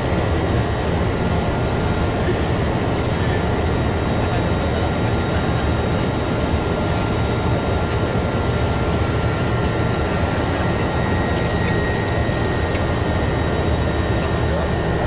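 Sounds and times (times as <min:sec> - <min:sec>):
high engine whine: 0:00.0 - 0:15.0
turboprop engine roar: 0:00.0 - 0:15.0.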